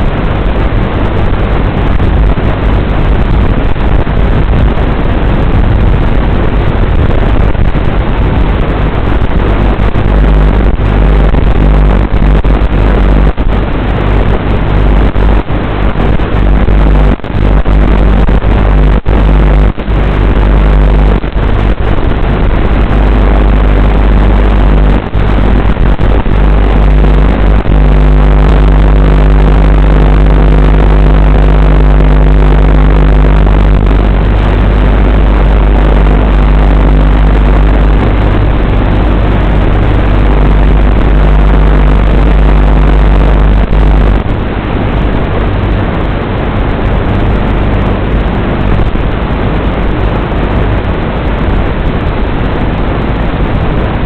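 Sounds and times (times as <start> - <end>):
loud rushing noise: 0.0 - 54.0
low hum: 0.0 - 54.0.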